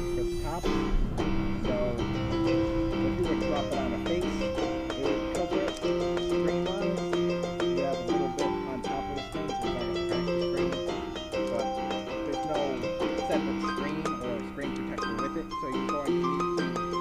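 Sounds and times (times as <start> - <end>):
keyboard tune over steady beat: 0.0 - 17.0.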